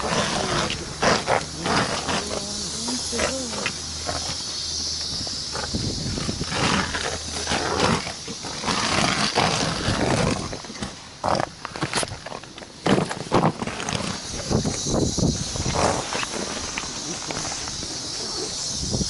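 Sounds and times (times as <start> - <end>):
high hiss: 0.0 - 11.2, 14.0 - 19.0.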